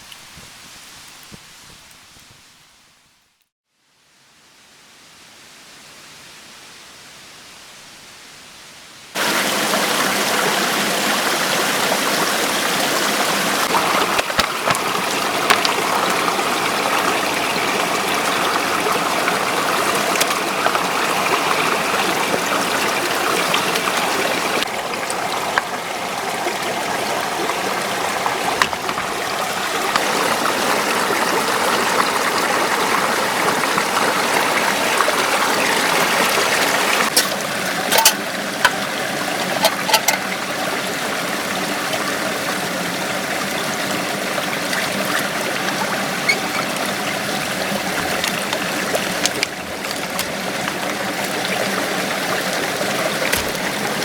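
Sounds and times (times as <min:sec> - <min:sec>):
stream water rushing: 0:09.2 - 0:54.0.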